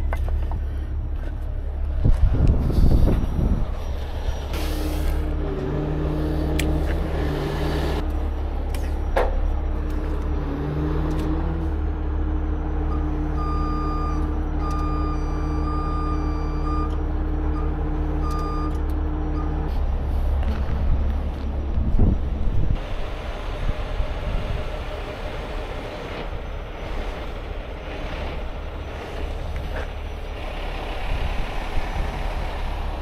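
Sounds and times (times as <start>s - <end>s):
tow truck engine and hydraulics: 0.0s - 33.0s.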